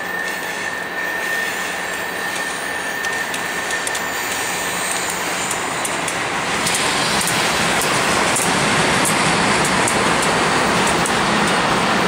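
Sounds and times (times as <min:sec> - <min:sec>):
steady high whine: 0:00.0 - 0:12.0.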